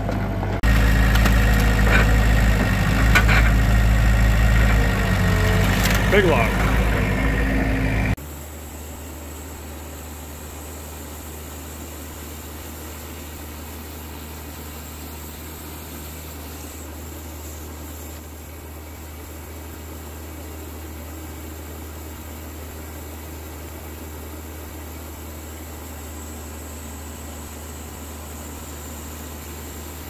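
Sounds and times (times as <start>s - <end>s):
bandsaw motor hum: 0.6s - 30.0s.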